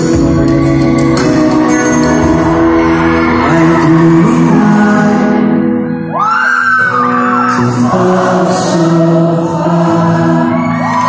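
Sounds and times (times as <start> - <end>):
pop-rock band playing live: 0.0 - 11.0
crowd whooping: 0.7 - 5.3, 6.0 - 11.0
man singing lead vocal: 1.2 - 11.0.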